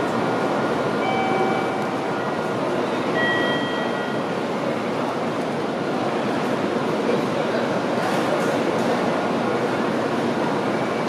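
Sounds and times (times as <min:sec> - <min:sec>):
bullet train rushing rumble: 0:00.0 - 0:11.0.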